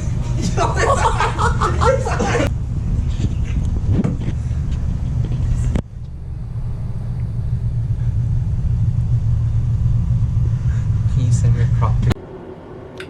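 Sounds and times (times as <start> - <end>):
car rumble from inside cabin: 0.0 - 12.2.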